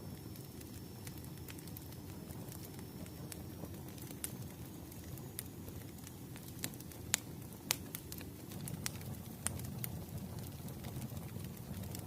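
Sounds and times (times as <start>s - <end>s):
logs crackling and popping: 0.0s - 12.0s
low rumble of flames: 0.0s - 12.0s.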